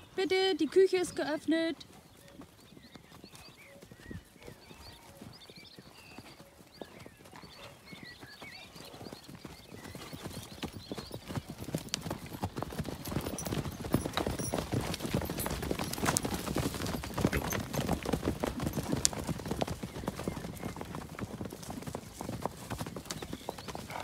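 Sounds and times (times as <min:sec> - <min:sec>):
horse hoofbeats on dirt: 0:00.0 - 0:24.0.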